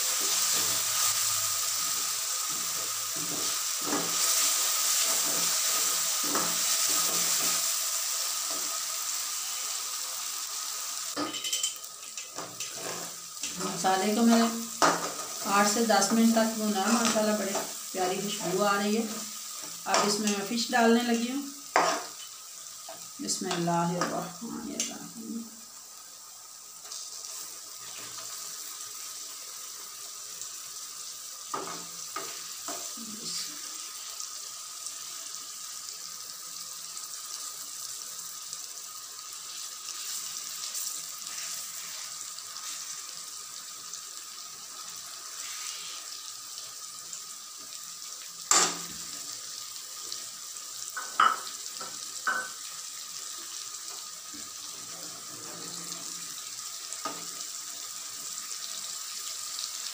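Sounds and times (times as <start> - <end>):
fish sizzling in oil: 0.0 - 59.9.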